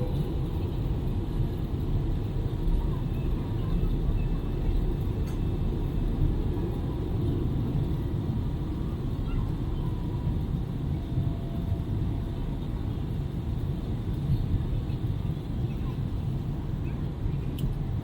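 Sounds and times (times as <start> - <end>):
airplane cabin engine and airflow rumble: 0.0 - 18.0.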